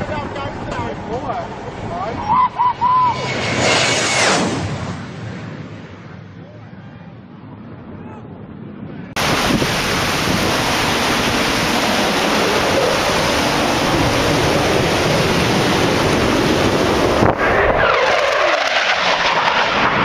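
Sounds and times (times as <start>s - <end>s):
jet aircraft roaring past: 0.0s - 20.0s.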